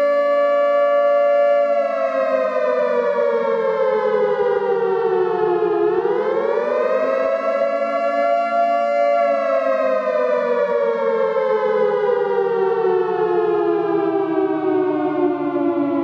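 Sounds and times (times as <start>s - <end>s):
civil defense siren: 0.0s - 16.0s.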